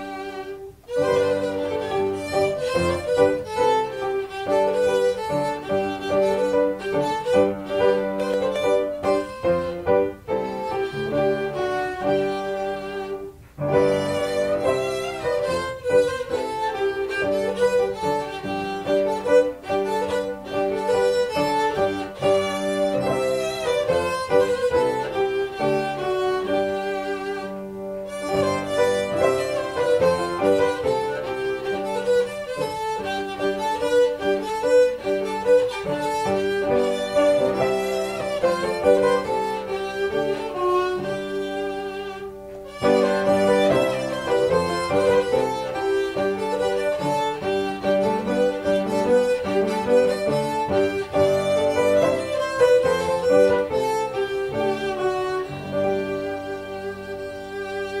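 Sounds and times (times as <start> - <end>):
bowed lyra melody: 0.0 - 58.0
piano: 0.0 - 58.0.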